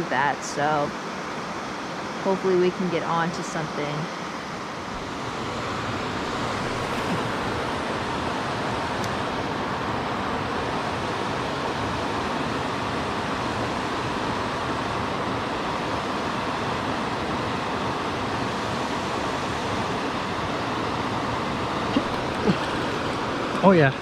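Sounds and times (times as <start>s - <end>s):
waterfall roaring: 4.5s - 24.0s.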